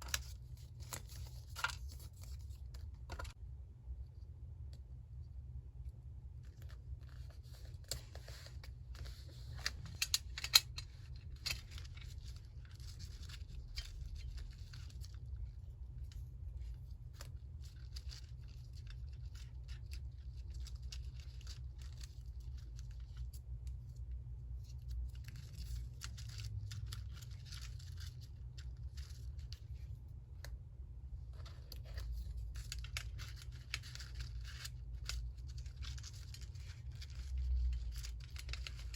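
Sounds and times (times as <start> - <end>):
paper rustling and crackling: 0.0 - 3.4, 6.5 - 24.0, 24.6 - 30.0, 31.3 - 38.9
low steady hum: 0.0 - 38.9.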